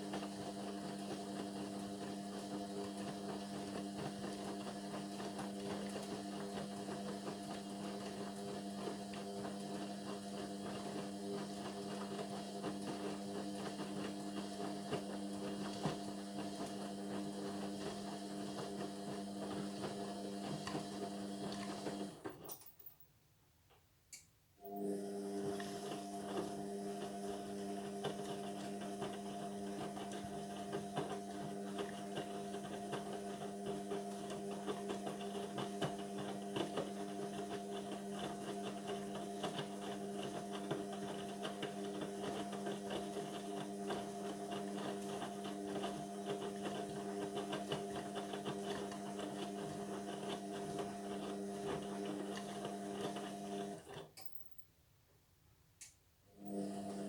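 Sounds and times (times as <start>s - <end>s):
washing machine hum: 0.0s - 22.8s, 24.6s - 54.6s, 56.3s - 57.0s.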